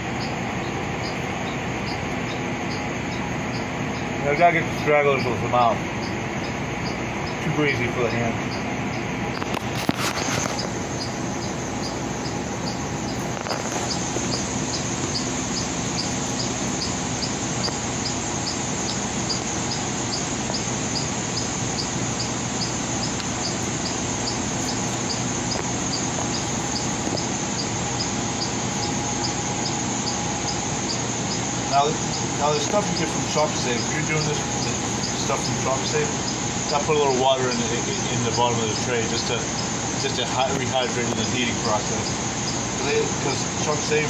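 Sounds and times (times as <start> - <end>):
fan whirring: 0.0 - 44.0.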